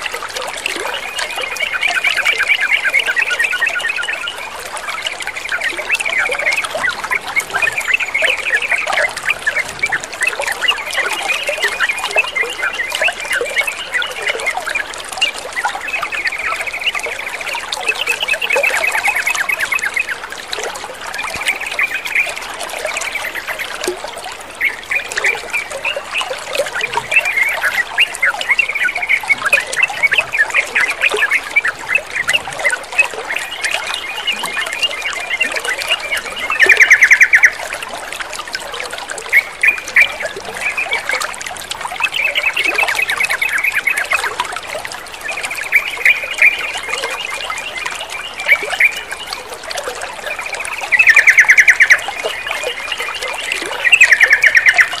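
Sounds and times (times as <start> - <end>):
bird song: 0.0 - 55.0
water trickling: 0.0 - 55.0.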